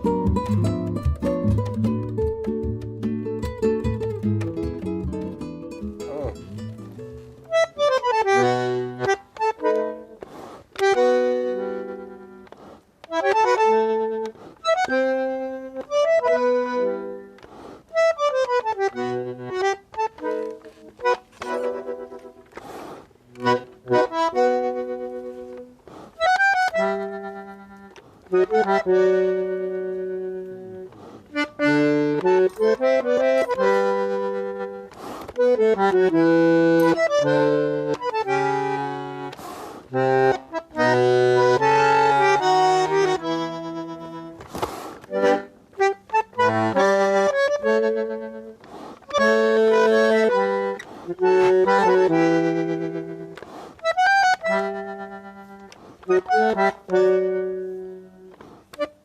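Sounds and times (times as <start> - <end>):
accordion playing a tune: 0.0 - 59.0.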